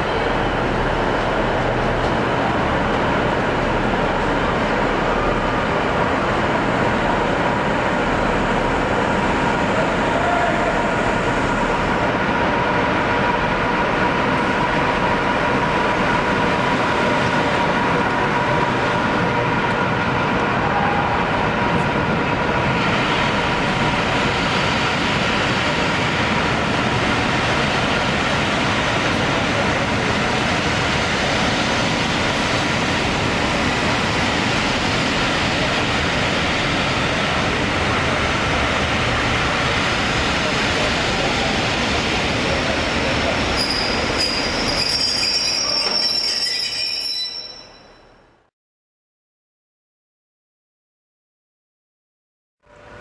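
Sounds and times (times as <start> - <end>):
train wheels rumbling on rails: 0.0 - 47.2.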